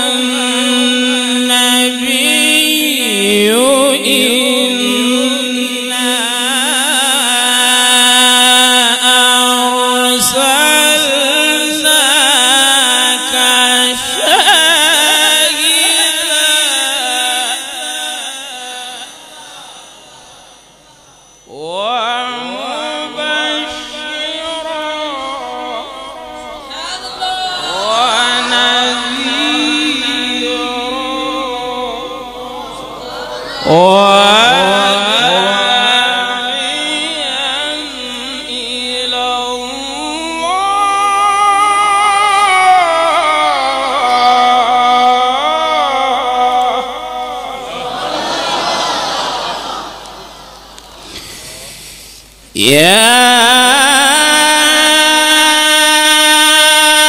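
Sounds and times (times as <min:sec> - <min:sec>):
man chanting melodically: 0:00.0 - 0:48.0, 0:52.5 - 0:57.0.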